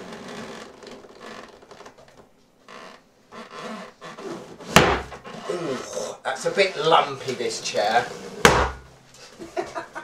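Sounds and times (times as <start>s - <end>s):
balloons rubbing and creaking: 0.0s - 9.0s.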